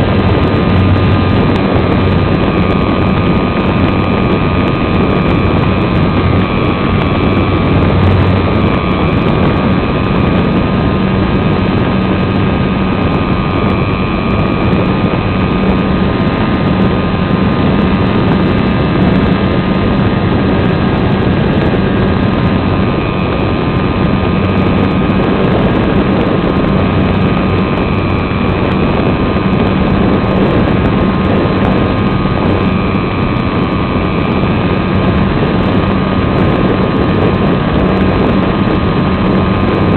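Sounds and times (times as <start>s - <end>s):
air rushing past microphone: 0.0s - 39.9s
electric motor whine: 0.0s - 39.9s.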